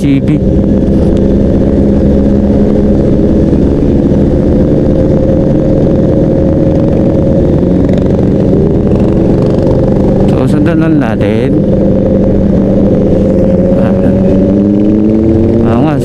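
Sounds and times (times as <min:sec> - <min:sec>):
motorcycle engine cruising: 0:00.0 - 0:16.0
road and wind rumble: 0:00.0 - 0:16.0.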